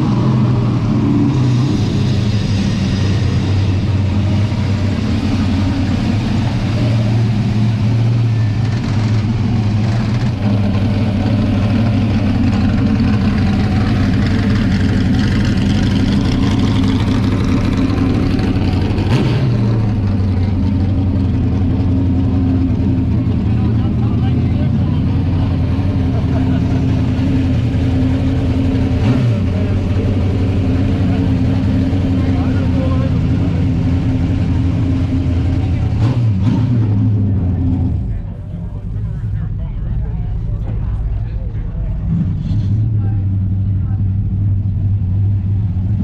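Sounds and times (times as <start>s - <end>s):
loud car engine running: 0.0s - 46.0s.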